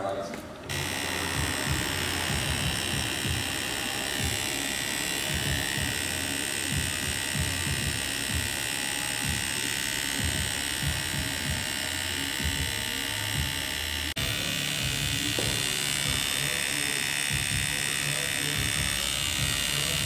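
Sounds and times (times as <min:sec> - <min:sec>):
tattoo machine buzzing: 0:00.7 - 0:20.0.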